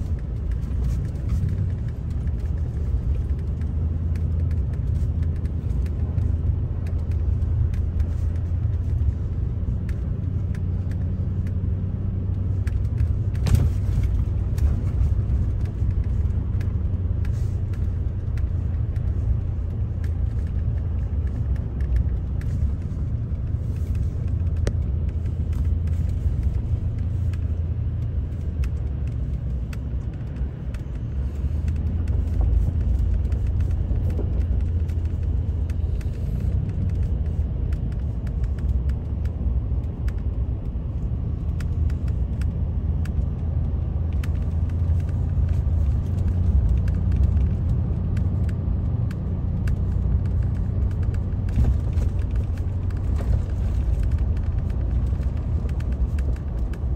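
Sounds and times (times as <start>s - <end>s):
car driving on snowy road: 0.0s - 56.9s.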